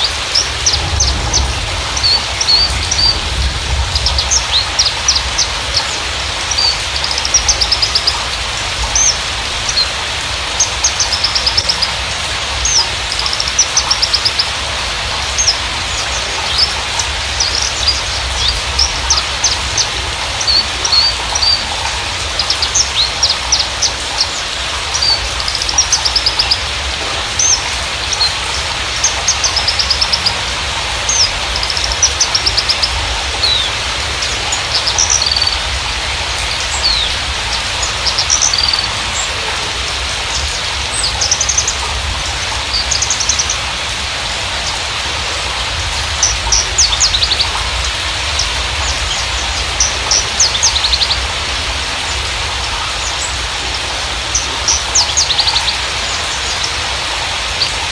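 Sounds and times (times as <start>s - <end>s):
bird singing high chirps and trills: 0.0s - 43.8s, 46.0s - 51.4s, 52.6s - 56.8s
steady hiss: 0.0s - 57.9s.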